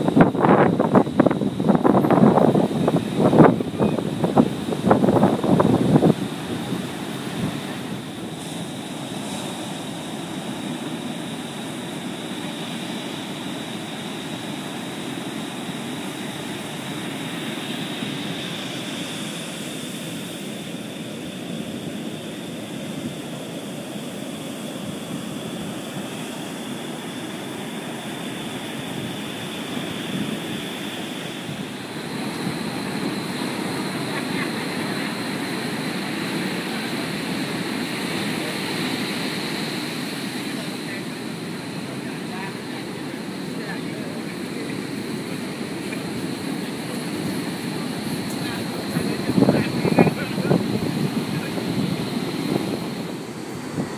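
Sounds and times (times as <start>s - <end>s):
surf breaking on beach: 0.0s - 53.9s.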